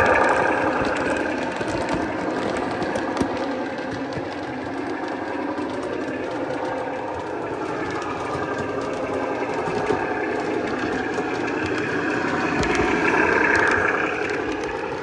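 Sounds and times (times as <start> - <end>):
model train rumbling on rails: 0.0 - 15.0.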